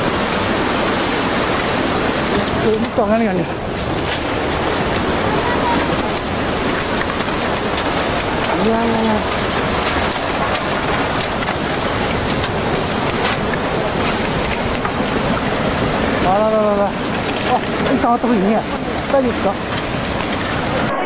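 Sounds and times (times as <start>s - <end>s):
floodwater rushing with debris: 0.0s - 21.0s.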